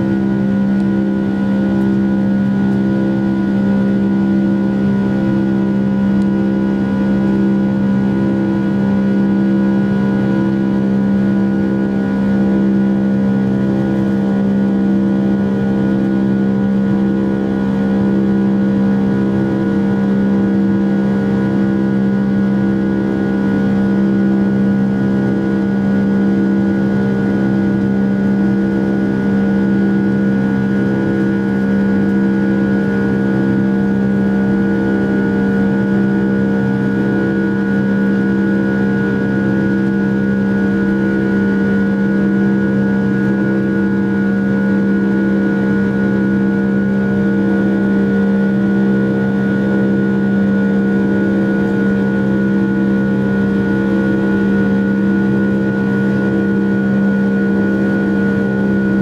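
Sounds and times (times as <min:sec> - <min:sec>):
jet engines droning in cabin: 0:00.0 - 0:59.0.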